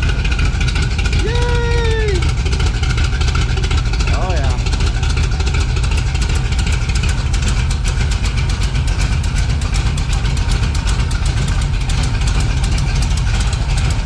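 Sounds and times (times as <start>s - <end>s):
engine running with rapid pulse: 0.0s - 14.0s.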